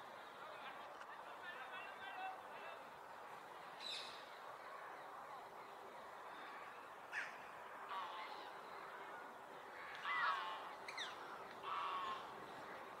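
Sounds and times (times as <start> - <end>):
background ambience: 0.0 - 13.0.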